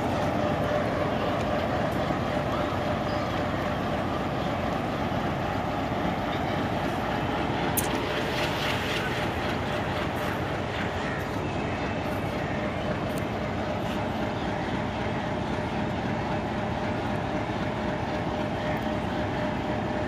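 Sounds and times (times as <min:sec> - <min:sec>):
diesel locomotive engine idling: 0:00.0 - 0:20.0.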